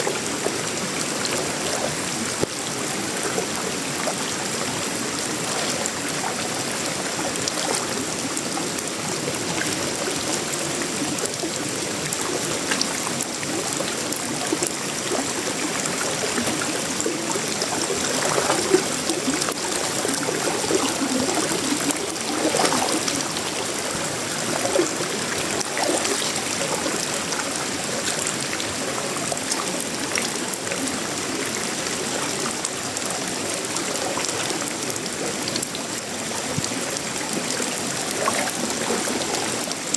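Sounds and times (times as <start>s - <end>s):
rain on a metal roof: 0.0s - 39.9s
water trickling: 0.1s - 39.9s.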